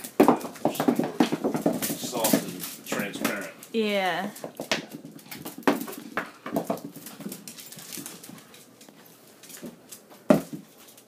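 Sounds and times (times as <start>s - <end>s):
dog claws clicking on floor: 0.0s - 3.8s, 4.4s - 11.0s
balls bouncing on laminate floor: 0.0s - 8.5s, 9.5s - 11.0s.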